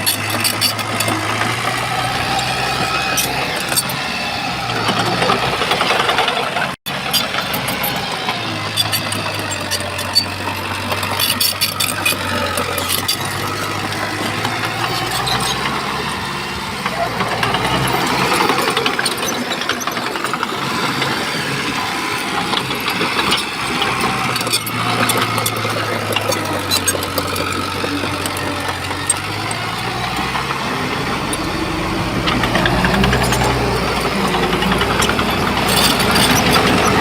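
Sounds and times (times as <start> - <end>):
bulldozer diesel engine running: 0.0 - 37.0.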